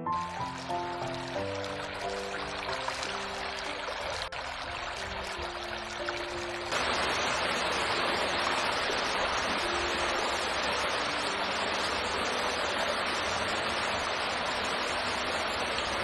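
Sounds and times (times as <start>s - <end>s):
river rushing over stones: 0.2s - 16.0s.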